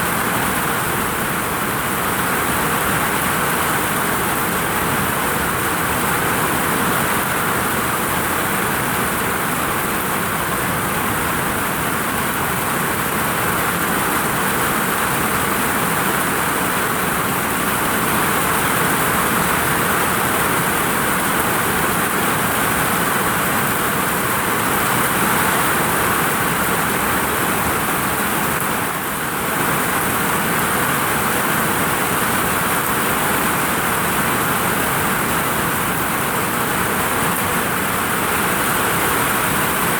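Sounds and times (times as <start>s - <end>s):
heavy rain on a vinyl roof: 0.0s - 39.9s.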